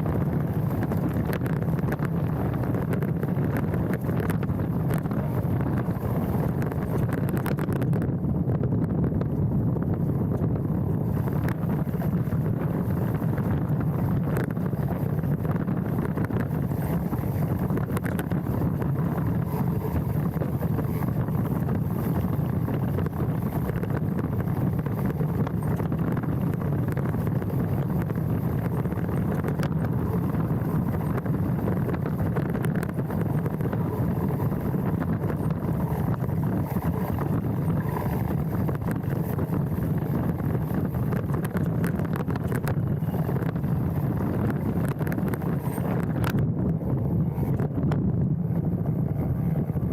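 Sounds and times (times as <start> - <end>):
bike rolling on dirt trail: 0.0 - 49.9.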